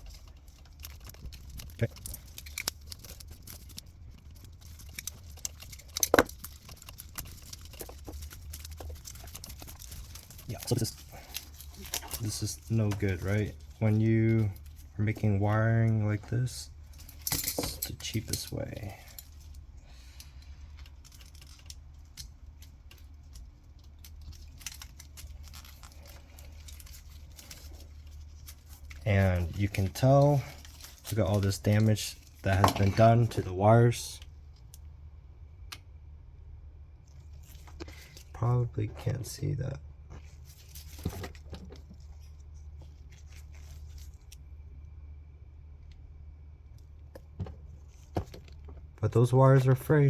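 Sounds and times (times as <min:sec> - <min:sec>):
hands clicking and rustling wiring: 0:00.0 - 0:36.0, 0:37.0 - 0:50.0
steady low hum: 0:00.0 - 0:50.0.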